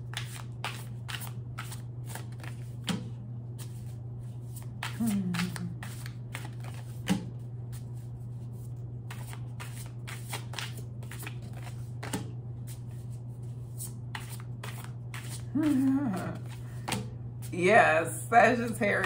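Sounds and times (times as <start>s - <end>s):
cards being shuffled: 0.0s - 17.5s
steady low hum: 0.0s - 19.0s.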